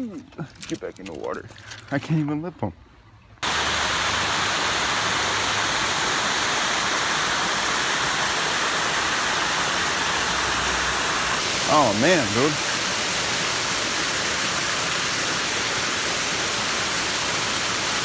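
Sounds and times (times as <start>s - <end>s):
creek water rushing: 3.4s - 18.0s.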